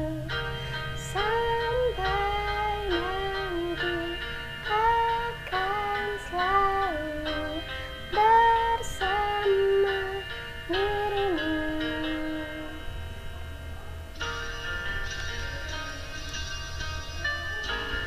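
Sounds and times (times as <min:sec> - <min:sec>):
pop song melody: 0:00.0 - 0:13.3, 0:14.1 - 0:18.0.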